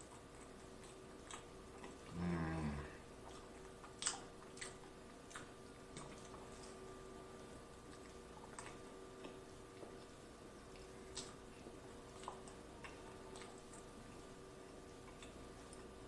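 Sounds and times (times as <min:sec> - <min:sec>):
wet mouth clicks and chewing: 0:00.0 - 0:02.2, 0:03.2 - 0:06.9, 0:07.8 - 0:16.0
faint electrical hum: 0:00.0 - 0:16.0.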